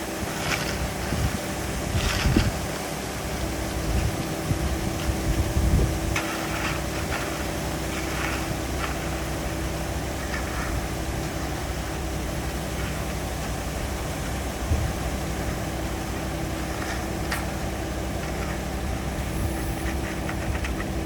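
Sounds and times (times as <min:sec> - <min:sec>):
engine rumbling: 0:00.0 - 0:21.0
faint steady hum: 0:00.0 - 0:21.0.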